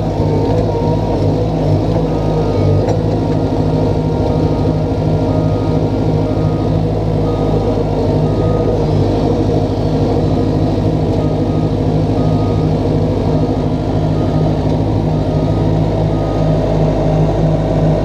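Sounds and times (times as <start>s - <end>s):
diesel engine running under load: 0.0s - 18.0s.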